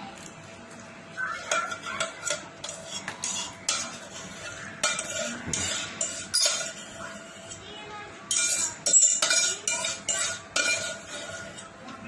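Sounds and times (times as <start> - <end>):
metal spoon scraping a pot: 1.2 - 7.7, 8.3 - 11.8.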